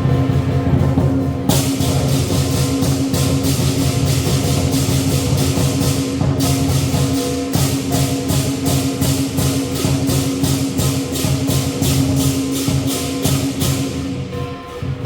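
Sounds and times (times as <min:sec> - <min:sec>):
cymbals clashing: 0:00.0 - 0:15.0
steady drumming: 0:00.0 - 0:15.0.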